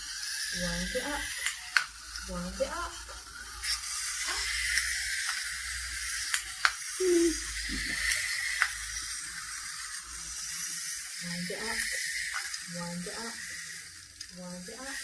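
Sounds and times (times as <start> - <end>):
clockwork toys whirring: 0.0 - 15.0.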